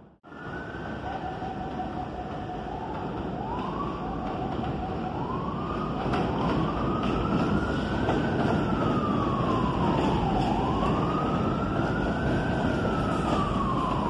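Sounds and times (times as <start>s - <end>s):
subway train whining tone: 0.0s - 14.0s
wheels rumbling on rails: 0.3s - 14.0s.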